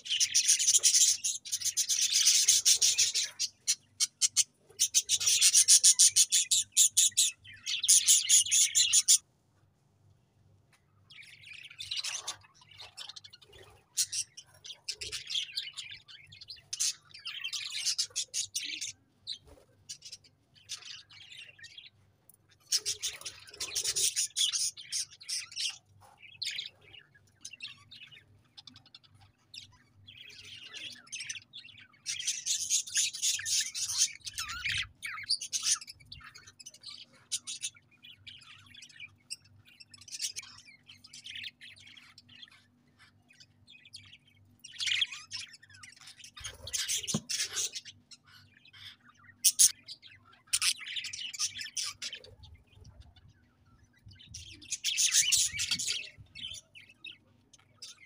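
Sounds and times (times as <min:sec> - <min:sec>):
budgerigars chirping and chattering: 0:00.0 - 0:09.2, 0:11.1 - 0:58.0.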